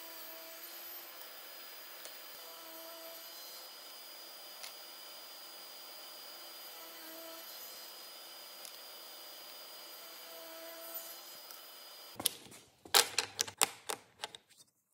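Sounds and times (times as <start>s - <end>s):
table saw whine: 0.0s - 12.2s.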